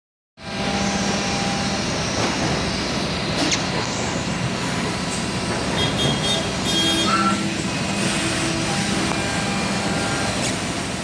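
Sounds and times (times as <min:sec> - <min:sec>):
robot machinery humming: 0:00.5 - 0:11.0.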